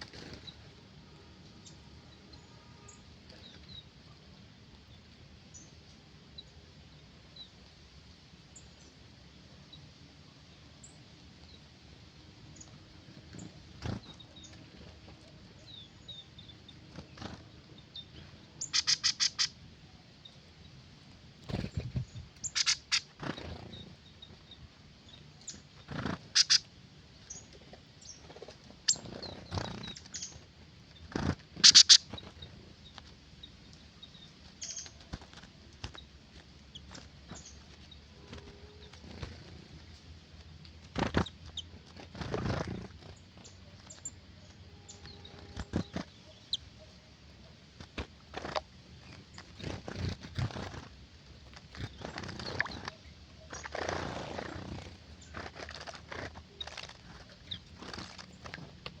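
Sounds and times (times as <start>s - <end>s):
birds calling in rapid bursts: 8.5s - 59.0s.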